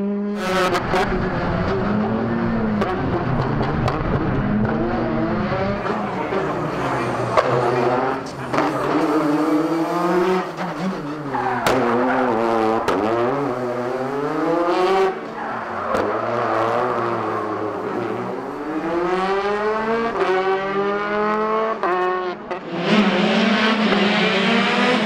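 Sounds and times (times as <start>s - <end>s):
rally car engine revving: 0.0s - 25.0s.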